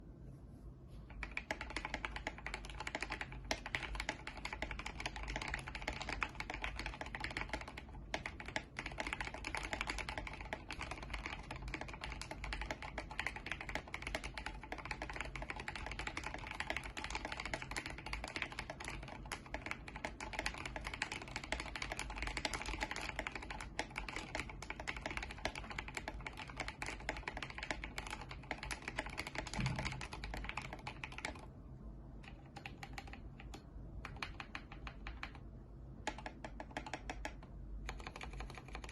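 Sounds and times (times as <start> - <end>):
mechanical keyboard typing: 1.1 - 31.5, 32.2 - 38.9.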